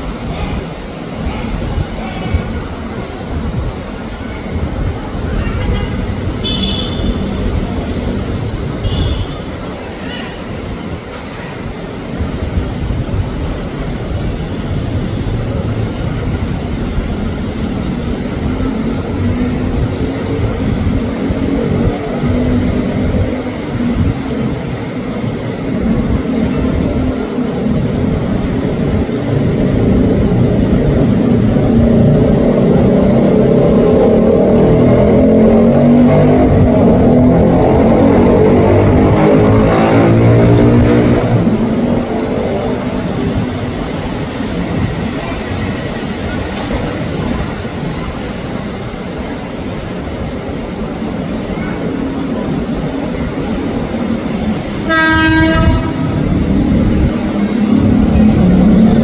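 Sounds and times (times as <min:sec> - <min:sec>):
train wheels and motors rumbling: 0:00.0 - 0:59.0.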